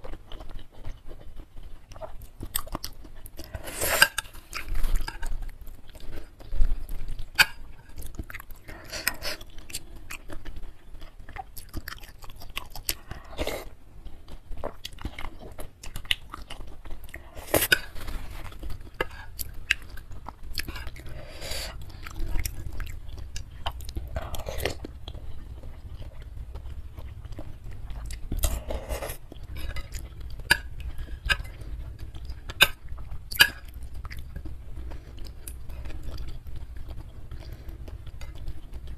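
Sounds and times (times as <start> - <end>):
wet chewing of food: 0.0 - 38.9.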